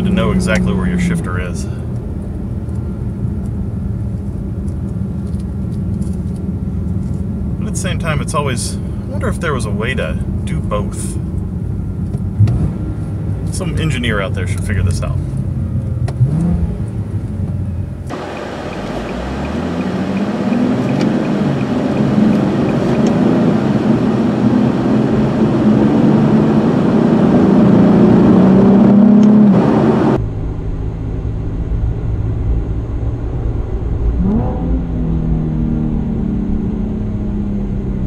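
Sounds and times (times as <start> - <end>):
car cruising engine and road drone: 0.0 - 38.0
car engine accelerating: 0.0 - 38.0.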